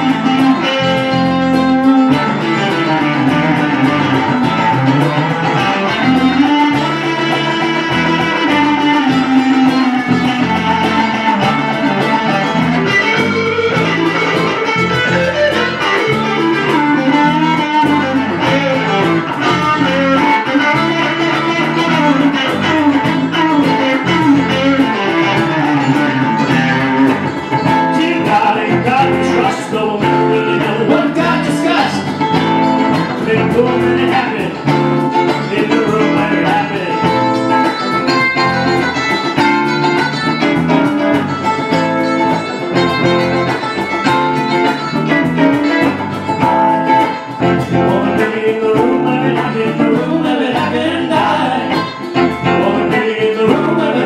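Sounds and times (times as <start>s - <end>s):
cajon beat: 0.0s - 54.0s
electric guitars playing: 0.0s - 54.0s.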